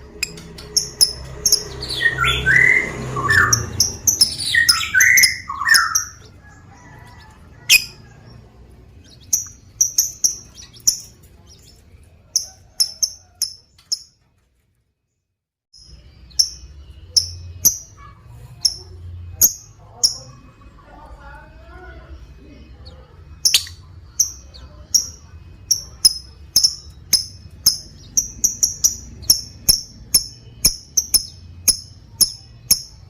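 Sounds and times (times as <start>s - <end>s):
bird high-pitched chirps: 0.2s - 14.2s, 15.8s - 20.8s, 22.8s - 33.0s.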